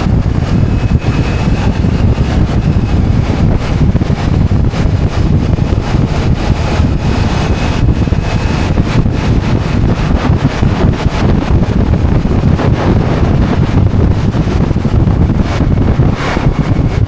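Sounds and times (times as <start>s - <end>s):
motorcycle engine: 0.0s - 17.0s
wind buffeting microphone: 0.0s - 17.0s.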